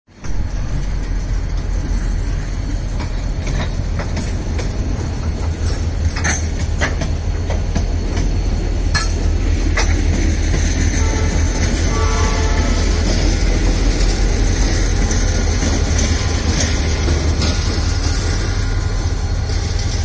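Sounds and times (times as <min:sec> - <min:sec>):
steel wheels rumbling on rails: 0:00.1 - 0:20.0.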